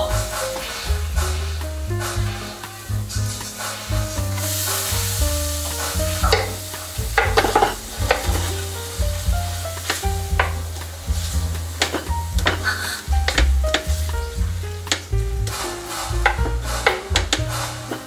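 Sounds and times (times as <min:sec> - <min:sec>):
background music with bass: 0:00.0 - 0:18.0
butter and garlic sizzling: 0:00.0 - 0:18.0.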